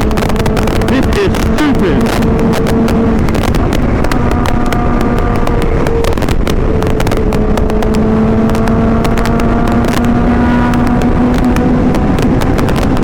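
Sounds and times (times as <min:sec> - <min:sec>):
motorcycle engine cruising: 0:00.0 - 0:13.0
wind buffeting microphone: 0:00.0 - 0:13.0.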